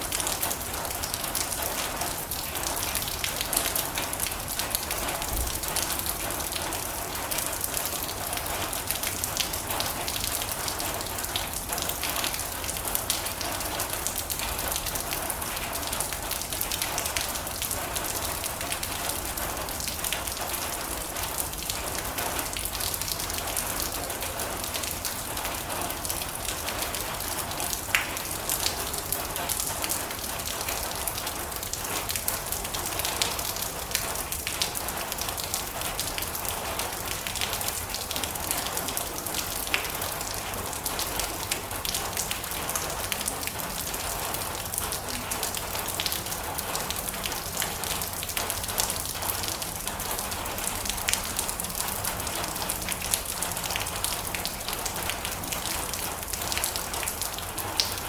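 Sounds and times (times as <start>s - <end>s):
rain drumming on a metal roof: 0.0s - 58.0s.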